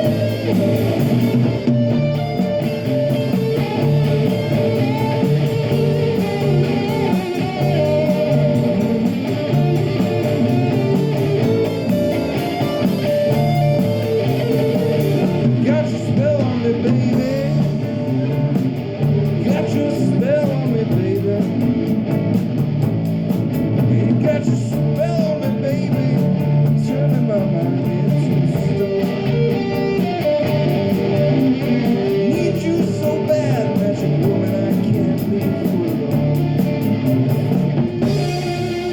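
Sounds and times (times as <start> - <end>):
electric guitar: 0.0 - 38.9
live rock band playing: 0.0 - 38.9.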